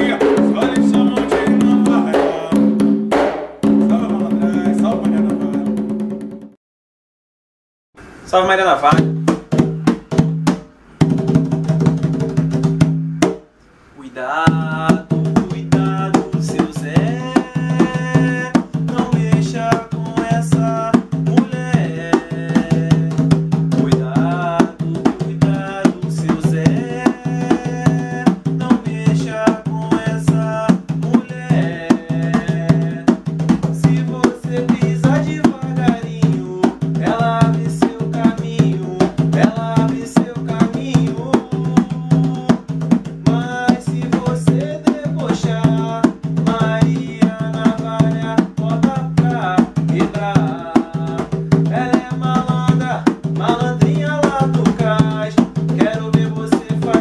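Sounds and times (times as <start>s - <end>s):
hand drums: 0.0s - 6.6s, 8.9s - 13.5s, 14.5s - 57.0s.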